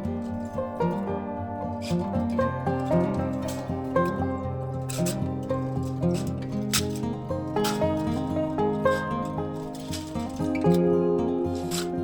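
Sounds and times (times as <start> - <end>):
melodic background music: 0.0 - 12.0.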